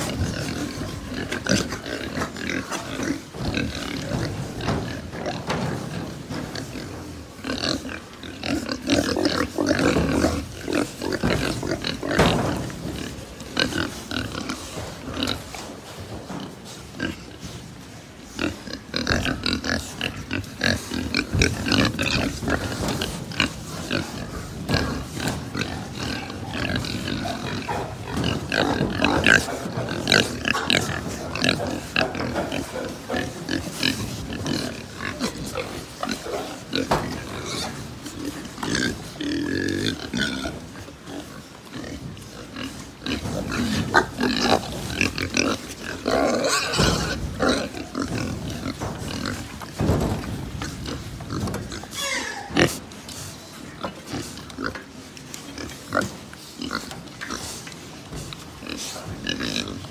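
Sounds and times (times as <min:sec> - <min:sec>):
pigs grunting: 0:00.0 - 0:59.9.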